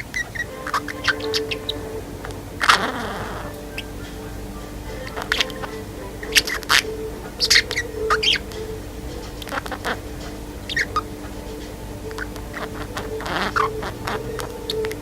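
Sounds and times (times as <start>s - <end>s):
budgerigar chirping: 0.0s - 15.0s.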